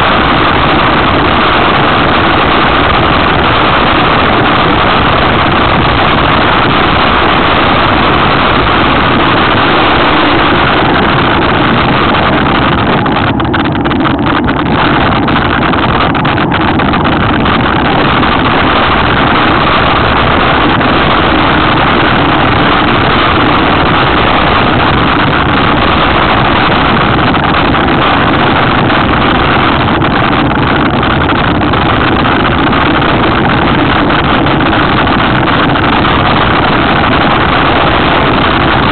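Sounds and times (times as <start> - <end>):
wind roar on microphone: 0.0 - 38.9.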